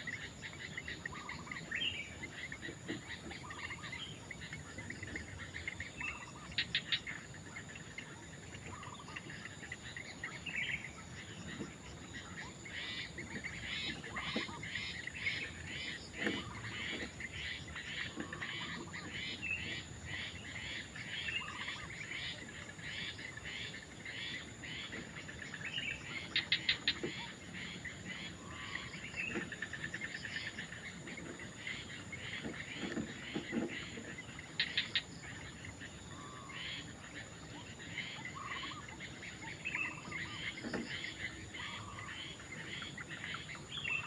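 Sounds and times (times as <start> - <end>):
heron chicks calling: 0.0 - 44.0.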